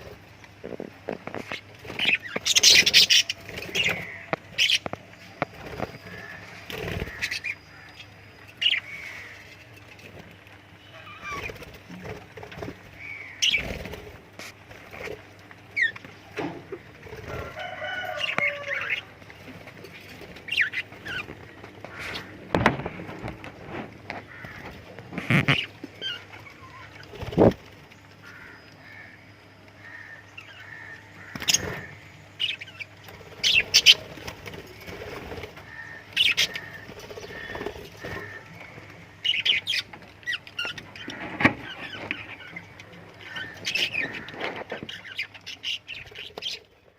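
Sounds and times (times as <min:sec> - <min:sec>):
lovebirds chirping and squawking: 0:00.0 - 0:46.9
steady low hum: 0:00.0 - 0:46.9.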